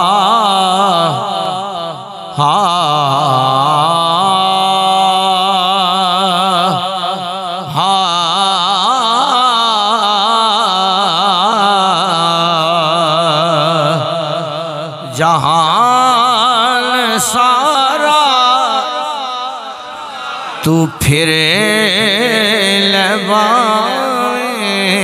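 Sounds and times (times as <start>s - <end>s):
man singing with vibrato: 0.0s - 25.0s.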